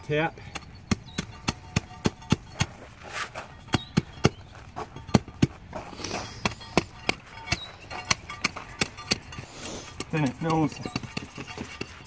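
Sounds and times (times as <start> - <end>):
hand tamper striking gravel: 0.0 - 12.0.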